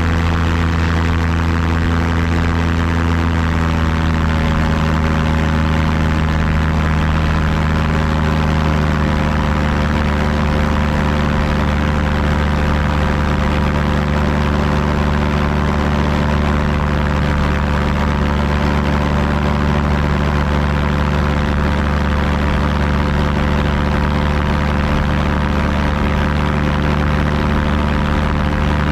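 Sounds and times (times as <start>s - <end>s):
engine droning steadily: 0.0s - 28.9s.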